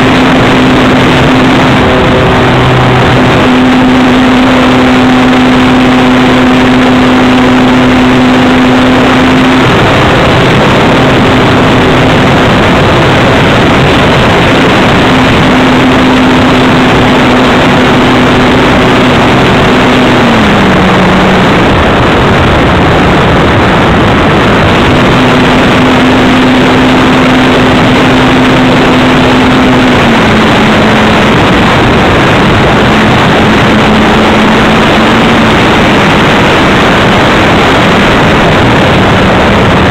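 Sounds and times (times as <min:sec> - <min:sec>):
model plane motor humming: 0:00.0 - 0:23.2, 0:24.6 - 0:38.8
wind rush over camera: 0:00.0 - 0:39.9.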